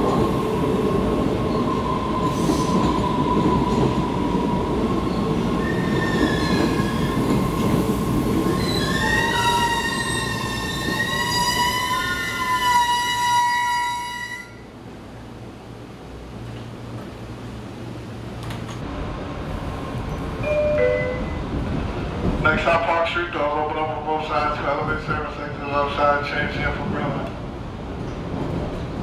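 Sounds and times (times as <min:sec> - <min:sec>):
subway train rumble and whine: 0:00.0 - 0:29.0.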